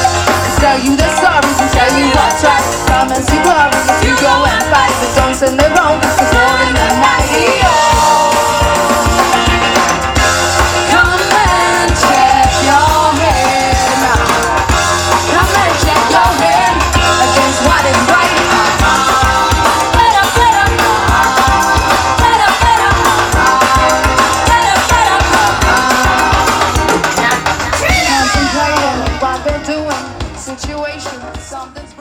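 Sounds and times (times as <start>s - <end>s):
person singing: 0.0s - 9.9s, 10.8s - 32.0s
live reggae band playing: 0.0s - 32.0s.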